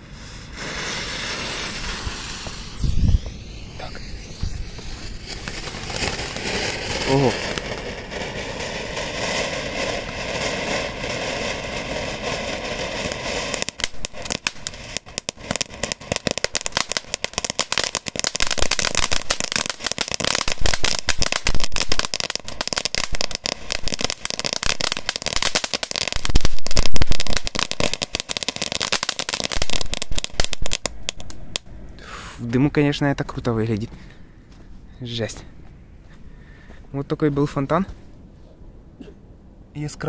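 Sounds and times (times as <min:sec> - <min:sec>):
firework crackling: 0:00.0 - 0:32.5
firework sparks hissing: 0:00.0 - 0:32.5.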